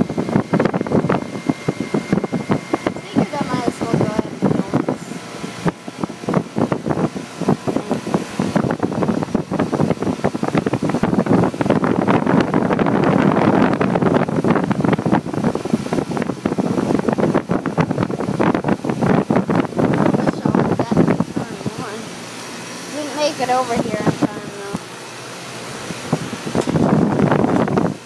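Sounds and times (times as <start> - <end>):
air conditioner condenser running: 0.0 - 28.0
gusty rushing noise: 0.0 - 28.0.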